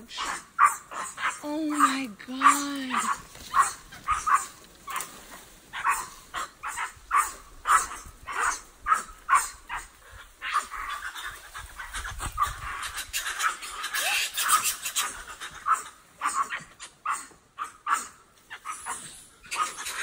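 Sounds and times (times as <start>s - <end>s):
monkeys barking alarm calls: 0.0s - 20.0s.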